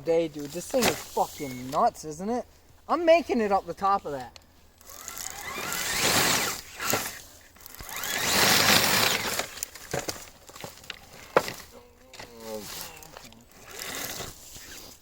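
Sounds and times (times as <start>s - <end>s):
rustling in dry leaves: 0.2s - 1.9s, 2.5s - 15.0s.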